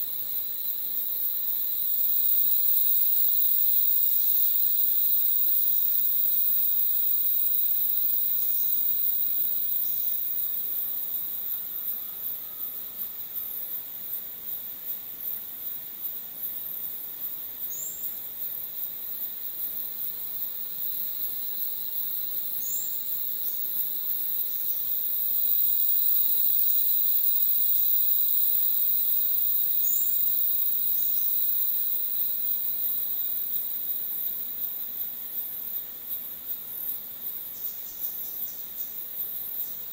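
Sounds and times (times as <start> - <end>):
insect chorus shrilling: 0.0 - 39.9.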